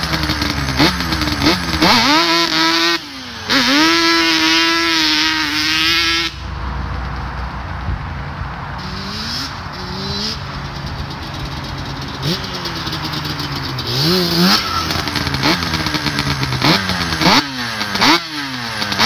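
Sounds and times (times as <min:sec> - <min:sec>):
two-stroke quad engine revving: 0:00.0 - 0:07.6, 0:08.8 - 0:19.0.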